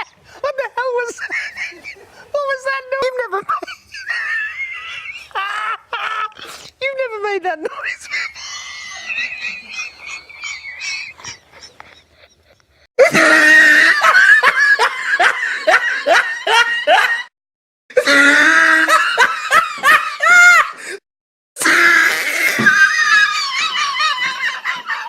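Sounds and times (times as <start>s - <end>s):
hearty human laughter: 1.0s - 2.3s, 3.4s - 6.5s, 7.6s - 17.3s, 18.0s - 21.0s, 22.1s - 25.0s.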